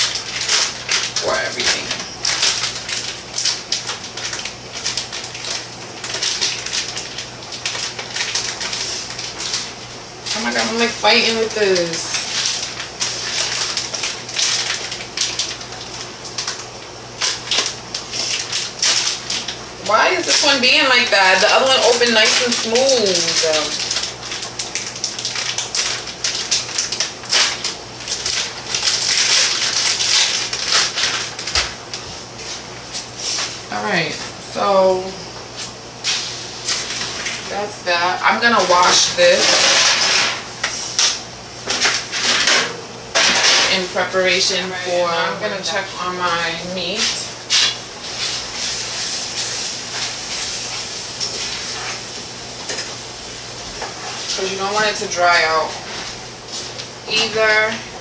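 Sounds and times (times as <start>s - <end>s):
plastic packaging crinkling: 0.0s - 33.8s, 35.6s - 37.5s, 38.4s - 42.5s, 46.8s - 58.0s.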